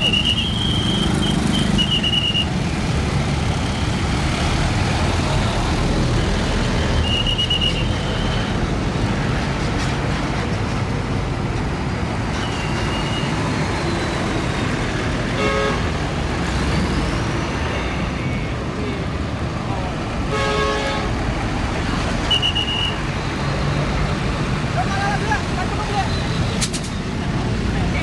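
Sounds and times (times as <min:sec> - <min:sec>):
truck engines rumbling: 0:00.0 - 0:28.0.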